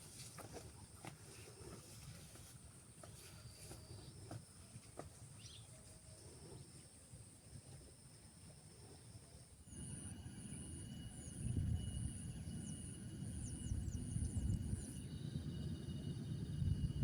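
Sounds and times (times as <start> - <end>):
high insect drone: 0.1 - 17.0.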